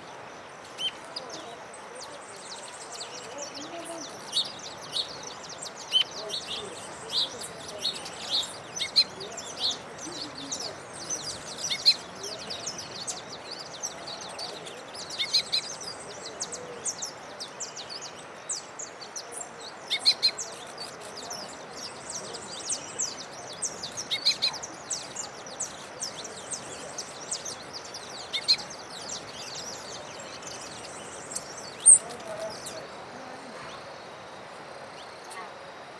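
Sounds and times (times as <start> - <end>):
songbirds chirping: 0.0 - 35.9
steady background hiss: 0.0 - 35.9.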